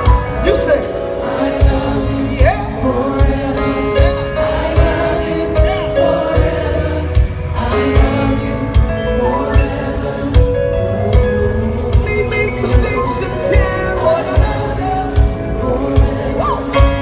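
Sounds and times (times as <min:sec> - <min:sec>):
choir singing: 0:00.0 - 0:17.0
keyboard chords: 0:00.0 - 0:17.0
steady drum beat: 0:00.0 - 0:17.0.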